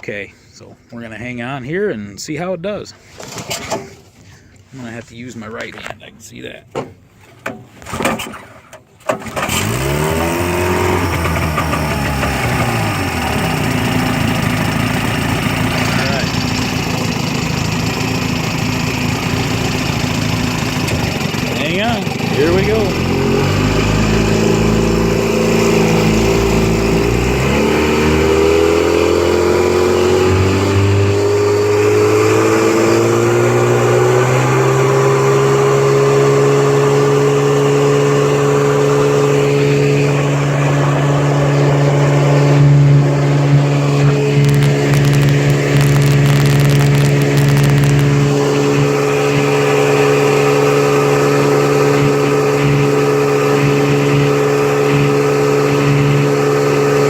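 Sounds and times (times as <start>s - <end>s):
outboard motor revving: 7.9s - 57.0s.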